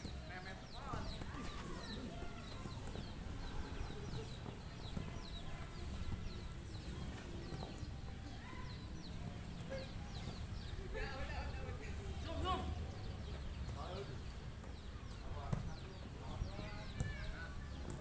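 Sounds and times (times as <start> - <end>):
distant voices: 0.0 - 18.0
small birds chirping: 0.0 - 18.0.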